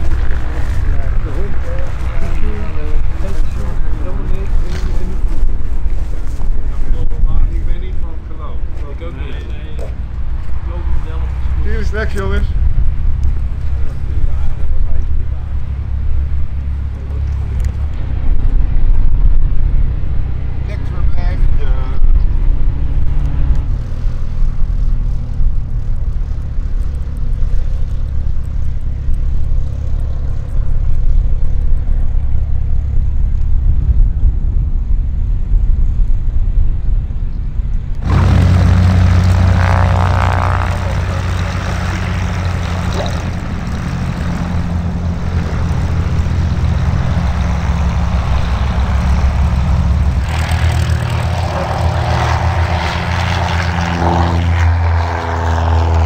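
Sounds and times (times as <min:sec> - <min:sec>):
piston aircraft engines droning: 0:00.0 - 0:56.0
wind on microphone: 0:00.0 - 0:56.0.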